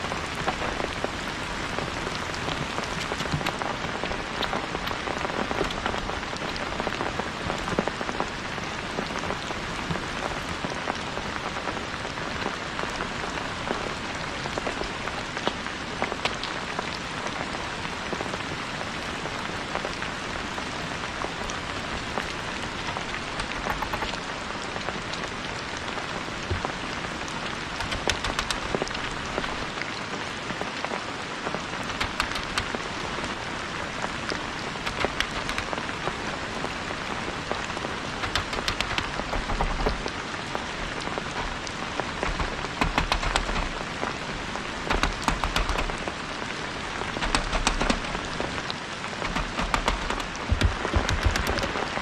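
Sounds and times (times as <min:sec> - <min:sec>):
raindrops ticking on surfaces: 0:00.0 - 0:52.0
steady rain falling: 0:00.0 - 0:52.0.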